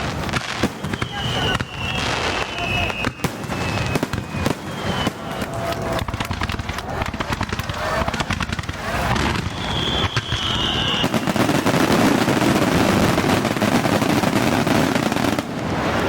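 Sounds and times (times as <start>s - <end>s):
falling firework whistle: 0.0s - 16.0s
fireworks crackling: 0.0s - 16.0s.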